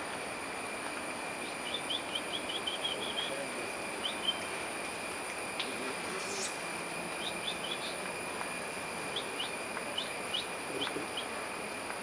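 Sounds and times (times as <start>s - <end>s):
forest background hum and hiss: 0.0s - 12.0s.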